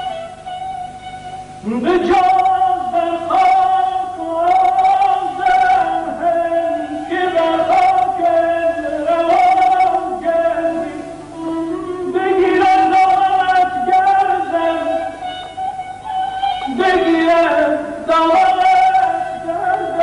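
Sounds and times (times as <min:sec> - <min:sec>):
man singing long wavering notes: 0:01.6 - 0:20.0.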